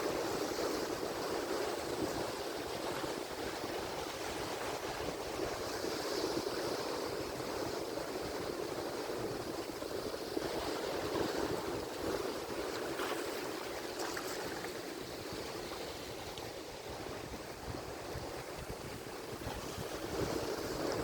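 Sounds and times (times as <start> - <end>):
waves breaking: 0.0 - 21.0.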